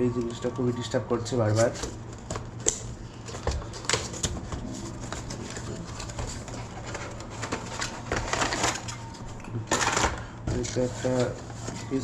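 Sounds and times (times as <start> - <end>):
packaging rustling and clicking: 1.5 - 12.0.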